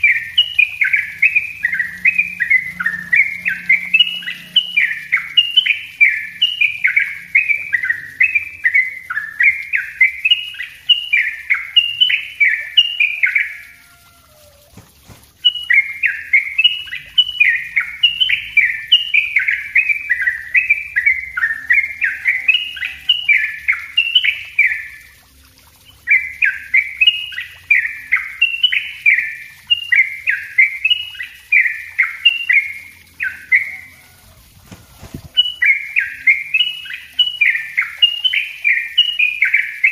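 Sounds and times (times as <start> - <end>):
bulbul singing rapid notes: 0.0 - 39.9.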